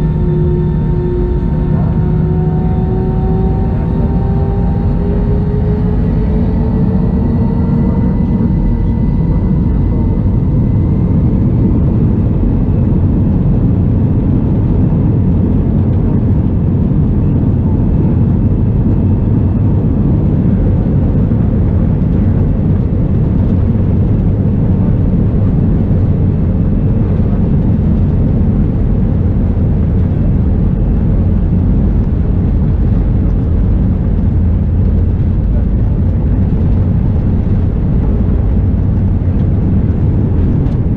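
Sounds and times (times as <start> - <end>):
jet engine whine: 0.0 - 40.9
jet engines rumbling in cabin: 0.0 - 40.9.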